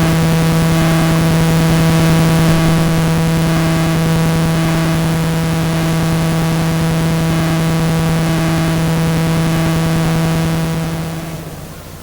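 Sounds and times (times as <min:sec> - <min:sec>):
loud buzzing hum: 0:00.0 - 0:12.0.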